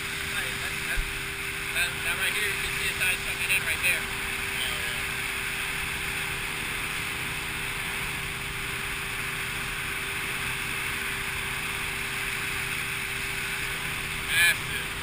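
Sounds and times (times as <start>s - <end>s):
motorboat engine hum: 0.0s - 15.0s
wind and water rushing: 0.0s - 15.0s.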